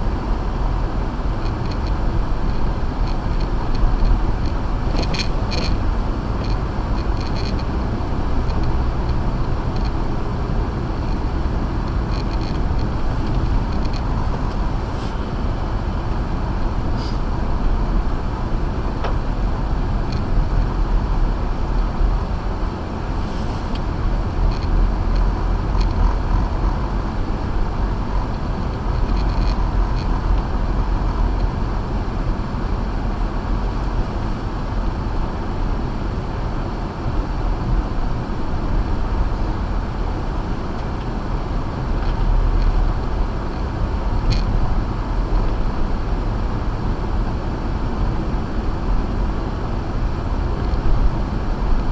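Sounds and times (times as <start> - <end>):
tyre rumble on snowy road: 0.0 - 49.2
car engine running: 0.0 - 51.9.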